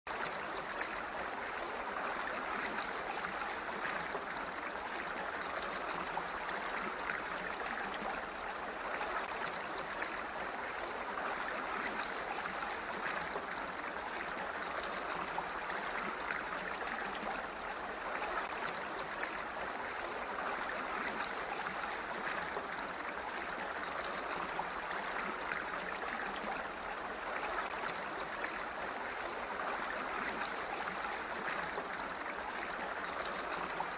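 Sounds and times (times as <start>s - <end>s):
flowing water rushing: 0.1s - 33.9s.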